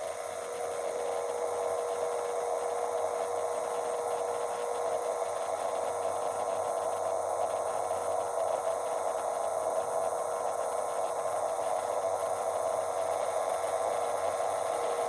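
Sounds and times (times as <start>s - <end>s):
constant mid-pitched tone: 0.0s - 15.0s.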